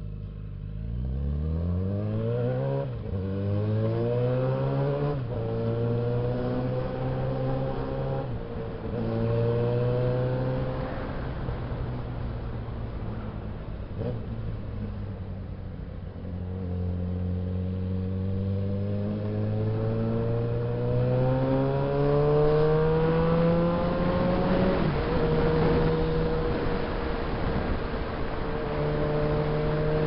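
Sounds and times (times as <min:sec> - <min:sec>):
motorcycle engine accelerating: 0:00.0 - 0:11.6, 0:13.3 - 0:30.0.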